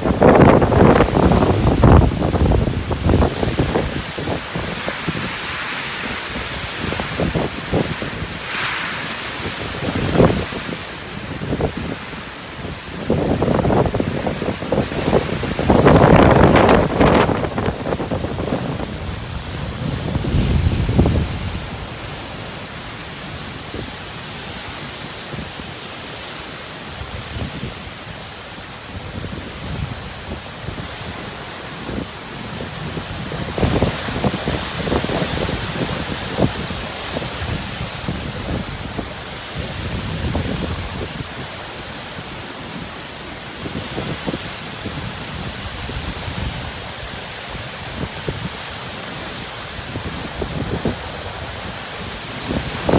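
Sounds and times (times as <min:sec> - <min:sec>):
wind and rain hiss: 0:00.0 - 0:52.9
wind gusts buffeting microphone: 0:00.0 - 0:52.9.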